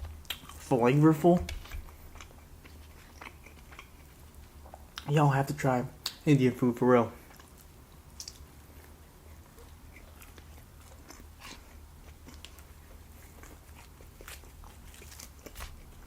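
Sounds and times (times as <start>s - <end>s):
person chewing food: 0.0s - 0.8s, 1.4s - 5.1s, 7.2s - 16.0s.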